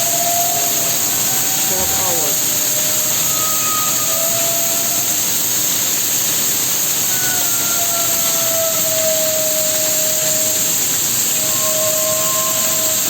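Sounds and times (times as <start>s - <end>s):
industrial machinery hiss and drone: 0.0s - 13.0s.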